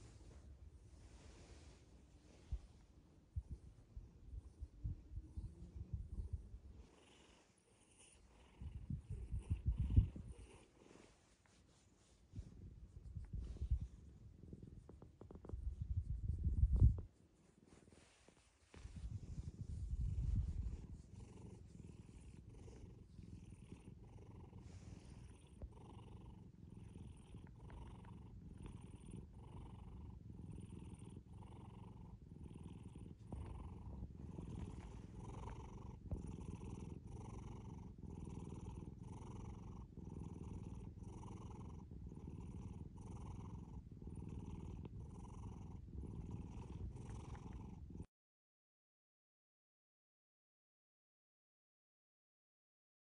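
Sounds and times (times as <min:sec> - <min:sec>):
cat purring: 0:00.0 - 0:48.1.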